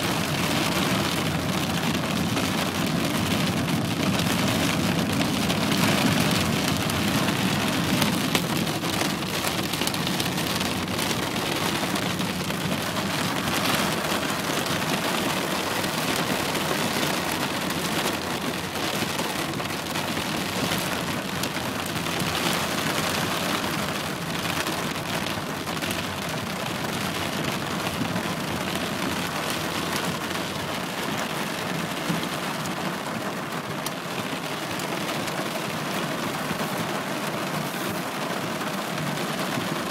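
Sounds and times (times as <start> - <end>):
heavy rain hitting surfaces: 0.0 - 39.9.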